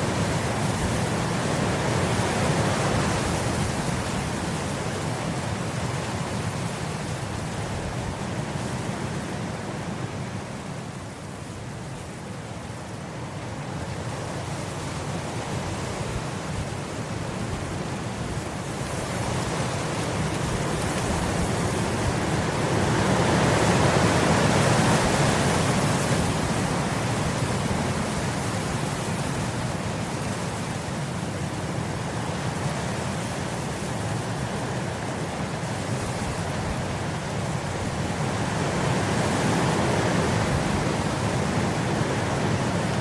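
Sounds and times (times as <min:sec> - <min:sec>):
wind blowing across grass: 0:00.0 - 0:43.0.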